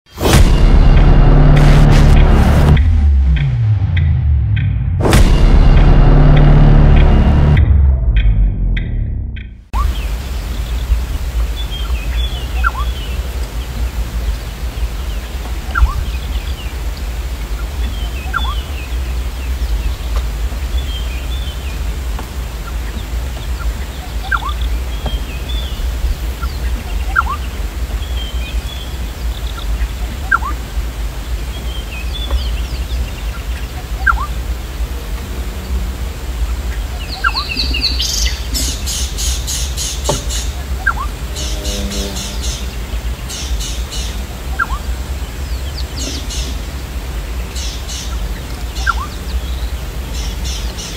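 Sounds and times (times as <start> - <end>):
steady low rumble: 0.2 - 50.9
birds twittering chirps: 9.6 - 50.9.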